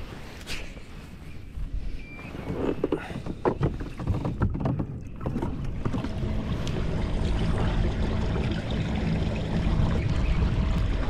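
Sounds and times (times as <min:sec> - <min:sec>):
water rushing along hull: 0:00.0 - 0:11.0.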